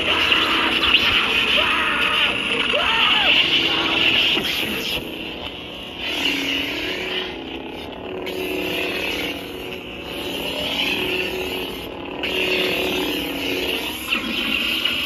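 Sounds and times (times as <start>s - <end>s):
lightsaber electric hum: 0.0s - 15.0s.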